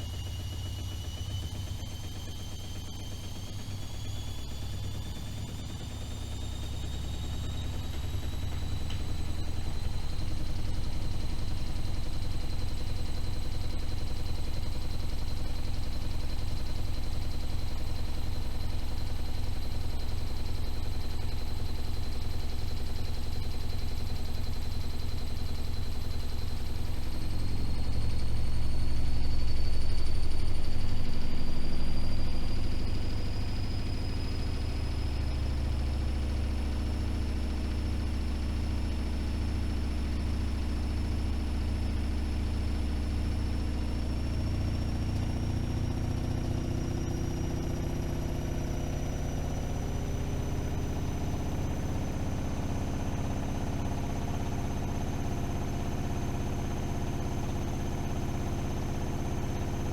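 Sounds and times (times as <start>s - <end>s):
washing machine motor whine: 0.0s - 59.9s.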